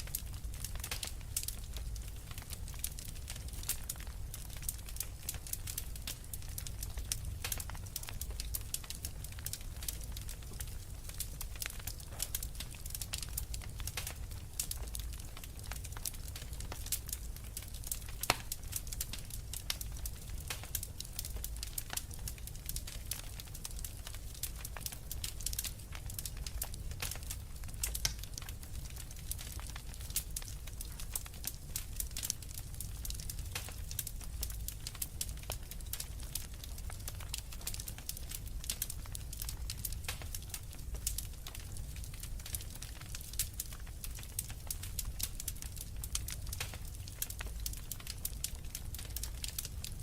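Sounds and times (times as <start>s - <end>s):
fireplace logs crackling and popping: 0.0s - 50.0s
low rumble of flame: 0.0s - 50.0s.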